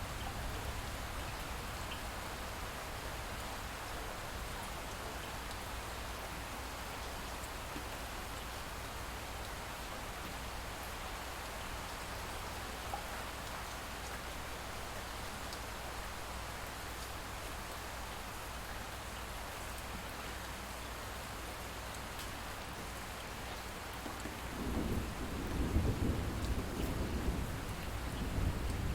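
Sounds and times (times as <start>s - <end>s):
light rain falling: 0.0s - 28.9s.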